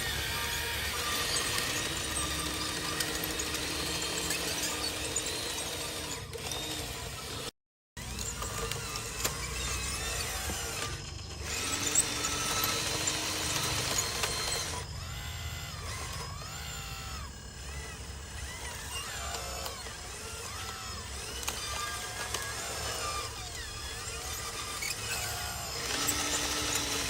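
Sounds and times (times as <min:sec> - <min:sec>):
rough grinding noise: 0:00.0 - 0:27.0
small electric motors whining: 0:00.0 - 0:27.0.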